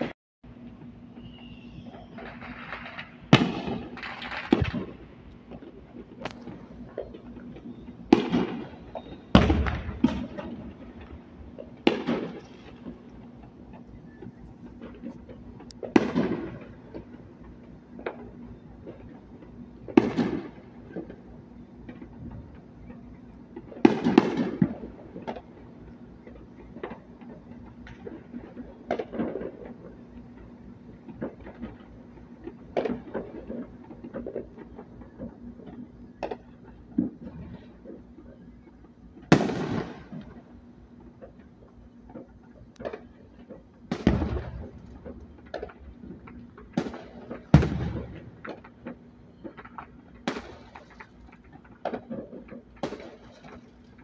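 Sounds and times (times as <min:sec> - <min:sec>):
fireworks bangs echoing: 0:01.2 - 0:54.0
small firework pops: 0:01.2 - 0:54.0.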